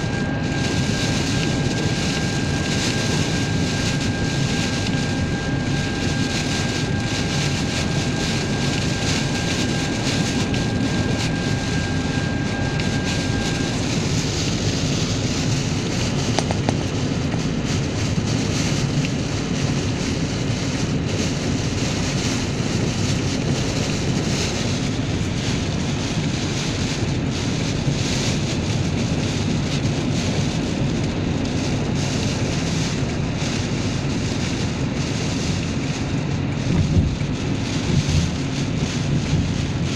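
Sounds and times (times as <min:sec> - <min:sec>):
wind and rain roaring: 0:00.0 - 0:39.9.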